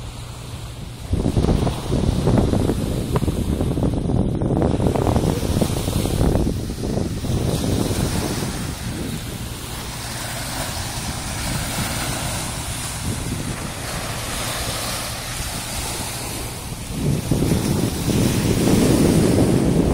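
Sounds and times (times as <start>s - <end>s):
gentle surf on sandy beach: 0.0s - 19.9s
wind noise on microphone: 0.0s - 19.9s.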